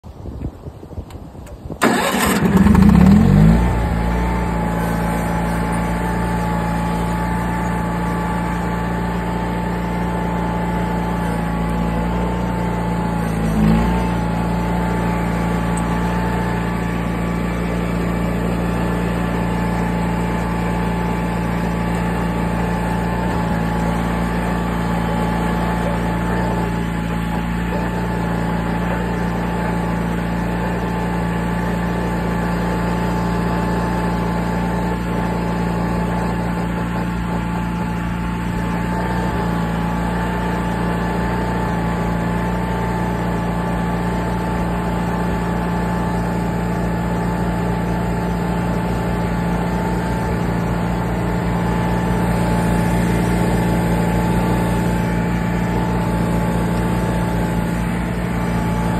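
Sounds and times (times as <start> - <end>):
tractor engine starting and running: 0.0 - 58.9.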